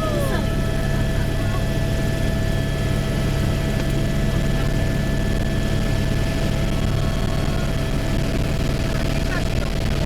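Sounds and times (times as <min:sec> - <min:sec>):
constant whine: 0:00.0 - 0:10.0
helicopter engine and rotor drone: 0:00.0 - 0:10.0.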